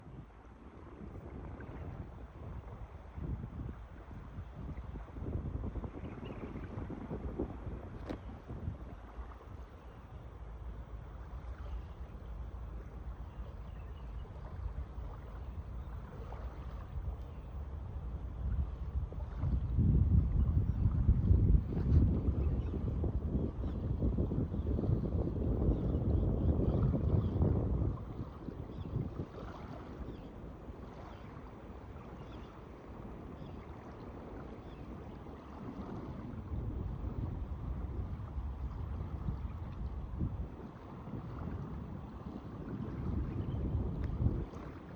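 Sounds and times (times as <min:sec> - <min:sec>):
calm water washing: 0:00.0 - 0:44.9
wind rumble on microphone: 0:00.0 - 0:44.9.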